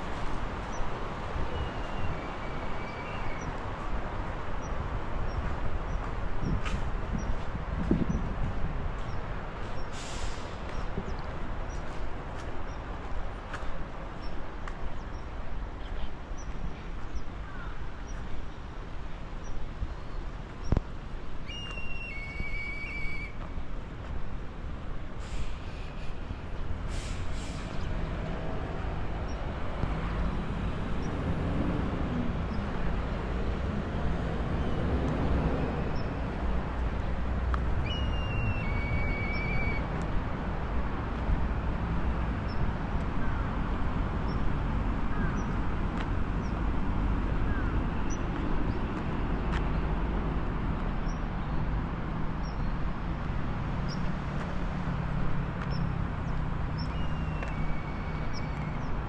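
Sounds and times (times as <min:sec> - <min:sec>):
road traffic: 0:00.0 - 0:59.0
vehicles passing: 0:00.0 - 0:59.0.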